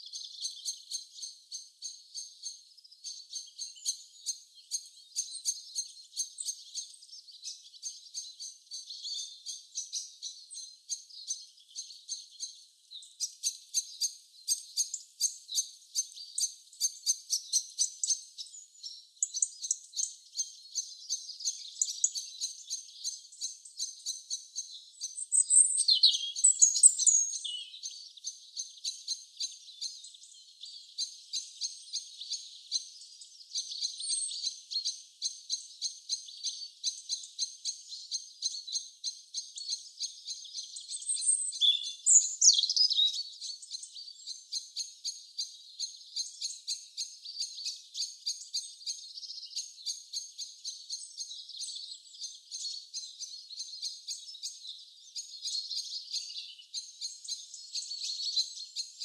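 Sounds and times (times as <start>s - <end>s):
small birds chirping and singing: 0.0s - 59.0s.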